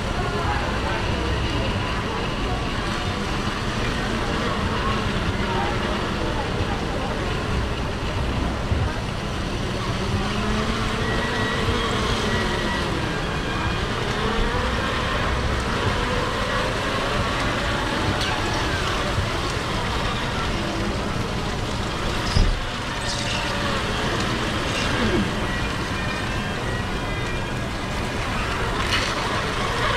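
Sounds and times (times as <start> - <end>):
indistinct voices: 0.0 - 29.9.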